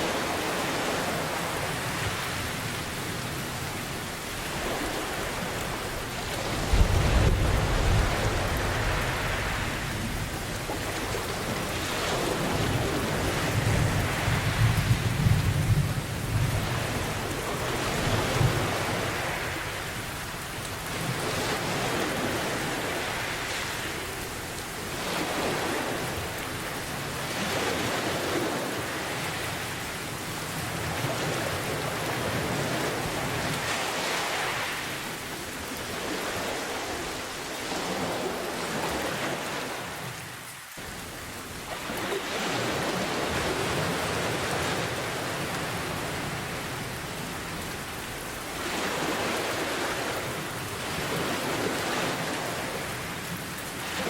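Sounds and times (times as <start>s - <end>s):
heavy rain: 0.0s - 54.0s
ocean waves: 0.0s - 54.0s.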